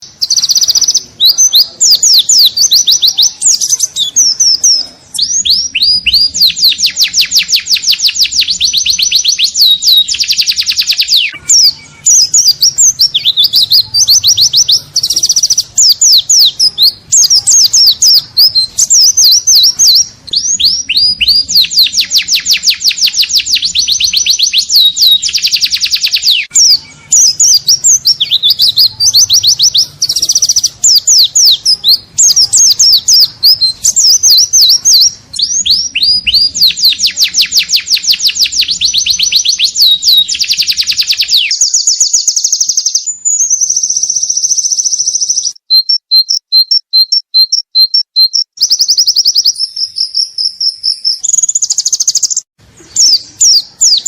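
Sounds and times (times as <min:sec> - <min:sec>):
bird chirping and trilling: 0:00.0 - 0:54.0.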